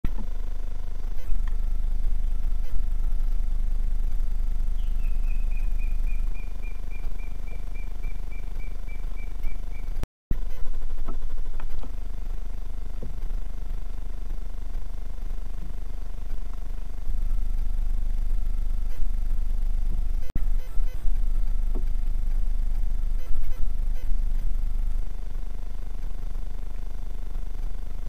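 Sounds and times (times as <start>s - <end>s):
low microphone rumble: 0.1s - 28.0s.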